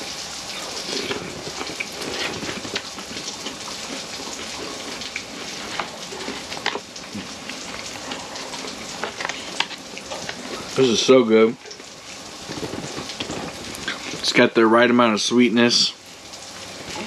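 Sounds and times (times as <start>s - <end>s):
ham sizzling in a frying pan: 0.0s - 17.0s.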